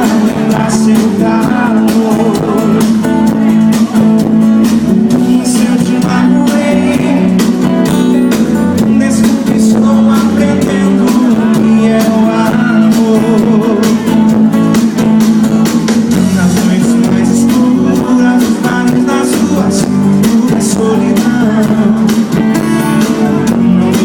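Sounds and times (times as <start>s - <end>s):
person singing: 0.0s - 15.0s, 15.6s - 24.0s
live band with guitars: 0.0s - 24.0s
steady drum beat: 0.0s - 24.0s.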